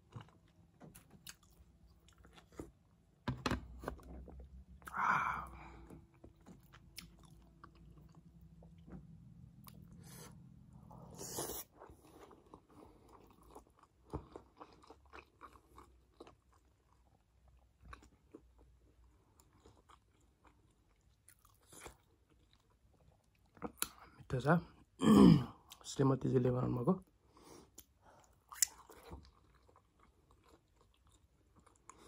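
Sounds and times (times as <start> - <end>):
person chewing food: 0.0 - 24.2, 27.4 - 32.0.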